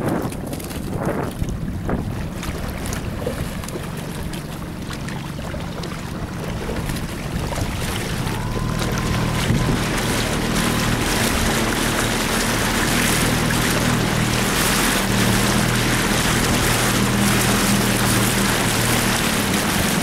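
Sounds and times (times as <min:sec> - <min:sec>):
motorboat engine running: 0:00.0 - 0:20.0
water rushing: 0:00.0 - 0:20.0
wind on microphone: 0:00.0 - 0:20.0.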